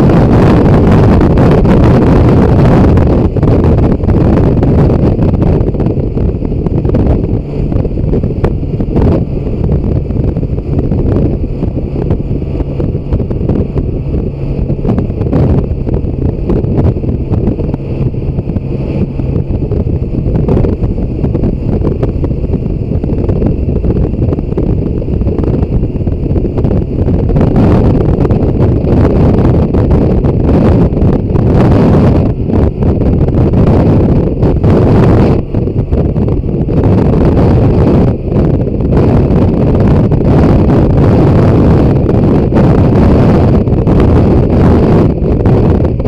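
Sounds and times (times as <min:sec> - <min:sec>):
motorcycle engine drone: 0:00.0 - 0:46.0
wind buffeting microphone: 0:00.0 - 0:46.0.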